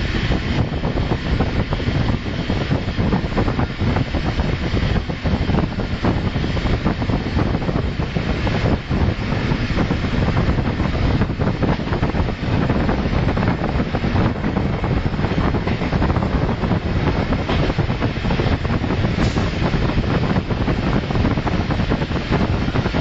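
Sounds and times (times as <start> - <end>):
train wheels on rails: 0.0 - 23.0
wind on microphone: 0.0 - 23.0.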